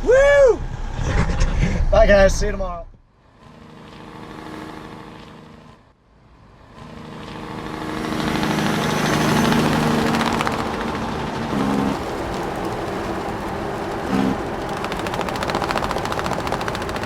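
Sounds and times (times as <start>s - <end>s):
vehicle engine running: 3.1s - 17.0s.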